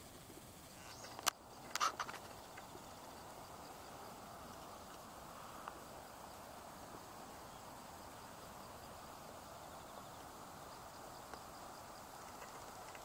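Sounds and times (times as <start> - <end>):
campfire hissing: 0.0 - 13.0.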